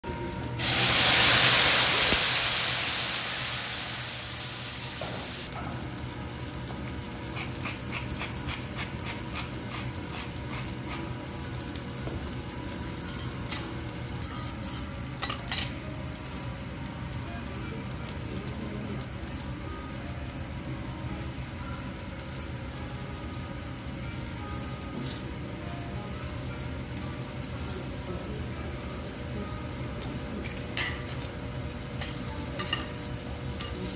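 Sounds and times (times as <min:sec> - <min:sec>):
beef sizzling on a griddle: 0:00.2 - 0:33.9.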